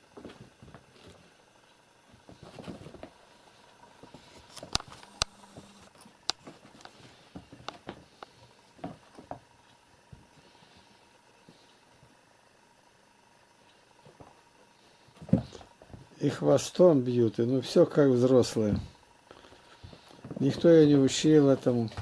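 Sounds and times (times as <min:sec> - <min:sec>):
kittens' paws pattering and scuffling: 0:00.0 - 0:12.2, 0:13.9 - 0:16.2, 0:18.5 - 0:22.0.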